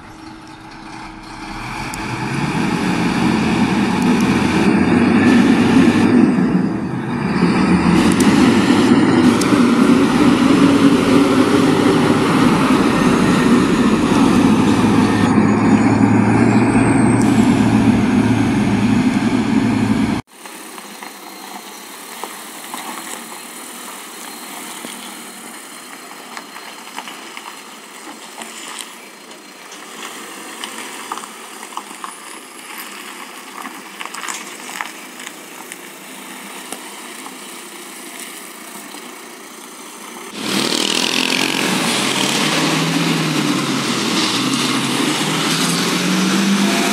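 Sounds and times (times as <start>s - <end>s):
fire truck diesel engine running: 0.0s - 20.3s, 29.4s - 46.9s.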